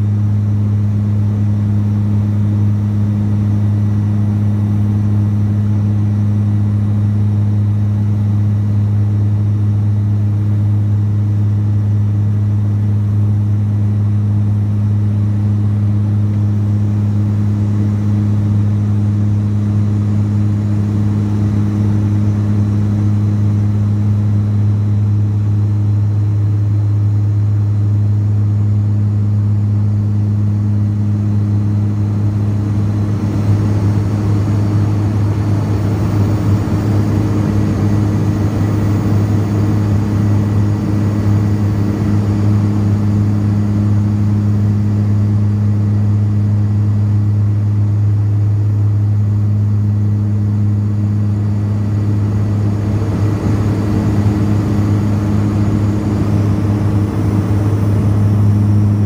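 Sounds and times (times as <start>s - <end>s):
turboprop propeller drone: 0.0s - 59.0s.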